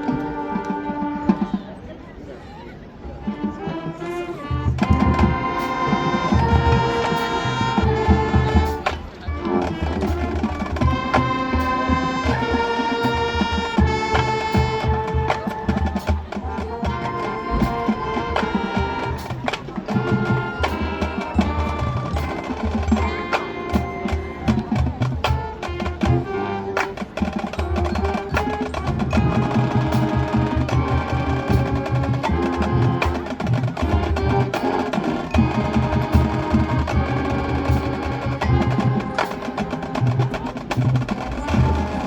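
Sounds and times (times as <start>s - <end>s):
brass and wind melody: 0.0s - 42.0s
drumline steady beat: 3.3s - 42.0s.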